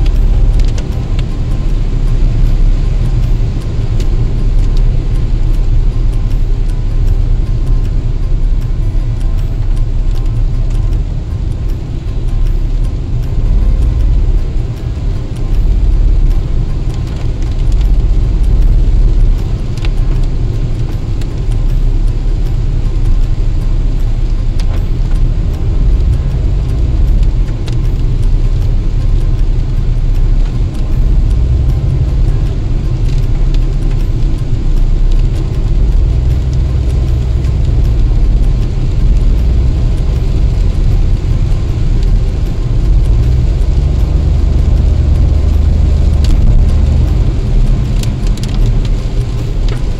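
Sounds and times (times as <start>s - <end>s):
car driving on wet road: 0.0s - 49.9s
faint ticks: 0.0s - 49.9s.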